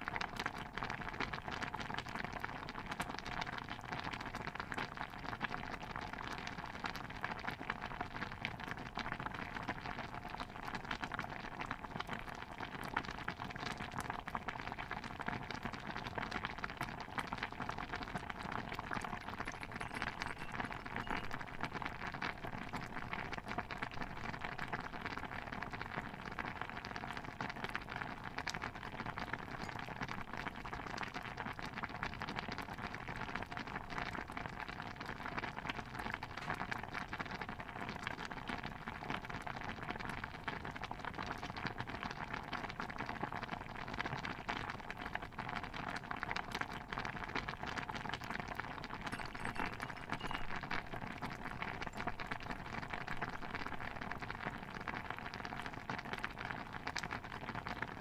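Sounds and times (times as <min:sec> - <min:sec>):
dense patter of pops and crackles: 0:00.0 - 0:58.0.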